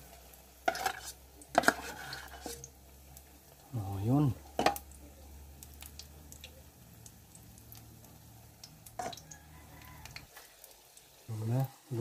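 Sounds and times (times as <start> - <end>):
batter crackling in hot oil: 0.0 - 12.0.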